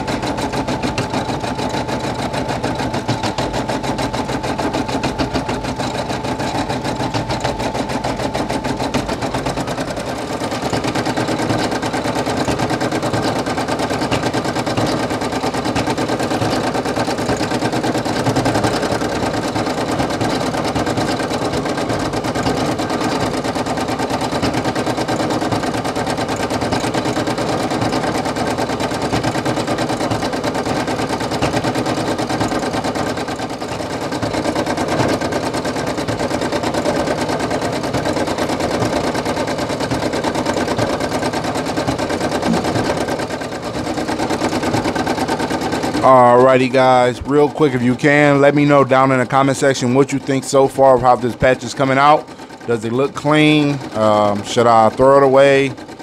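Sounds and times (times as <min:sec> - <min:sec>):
embroidery machine needle rattling: 0:00.0 - 0:56.0
machine motor humming: 0:00.0 - 0:56.0.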